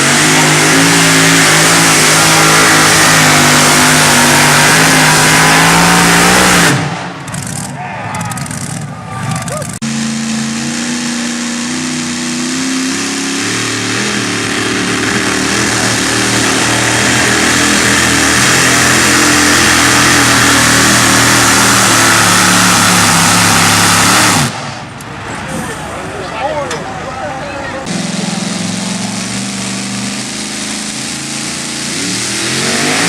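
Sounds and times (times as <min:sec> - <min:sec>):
truck engine at high revs: 0:00.0 - 0:26.2, 0:27.3 - 0:33.0.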